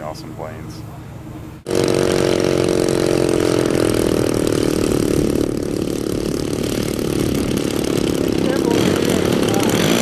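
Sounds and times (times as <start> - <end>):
model airplane engine: 1.7 - 10.0.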